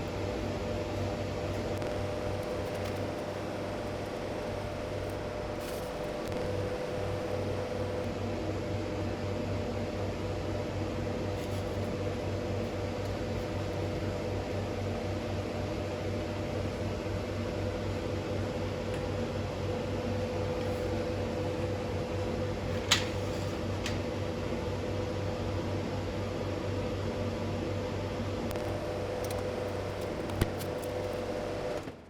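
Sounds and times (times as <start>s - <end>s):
machine humming: 0.0s - 22.7s, 27.8s - 32.0s.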